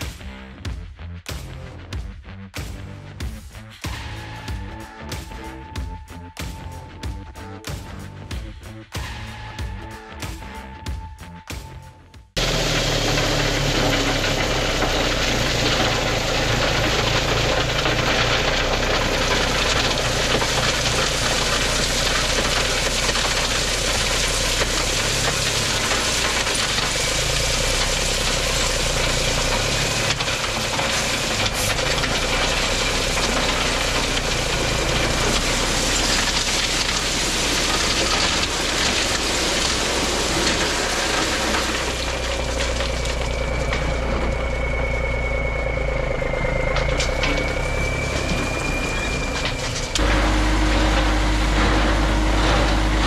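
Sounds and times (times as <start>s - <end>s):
heavy diesel engine droning: 3.8s - 11.4s, 12.4s - 53.0s.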